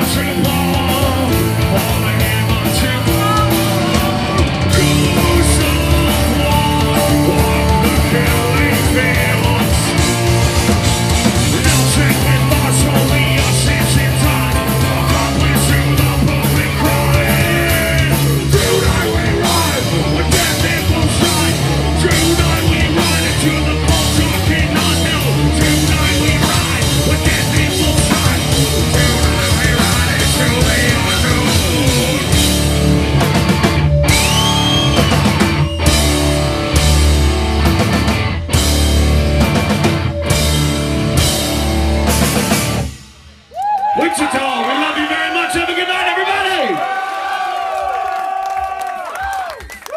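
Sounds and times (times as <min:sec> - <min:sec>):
distorted electric guitar: 0:00.0 - 0:43.4
drum kit: 0:00.0 - 0:44.4.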